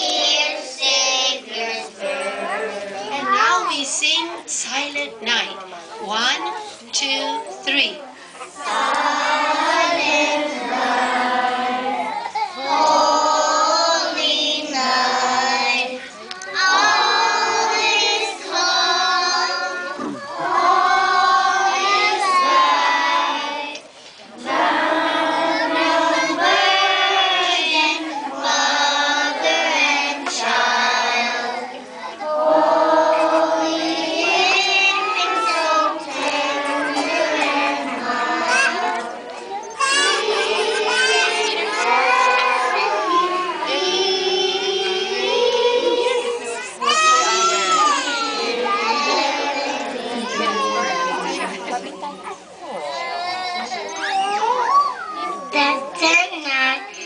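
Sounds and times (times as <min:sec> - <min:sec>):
children singing a carol: 0:00.0 - 0:04.4, 0:08.4 - 0:57.0.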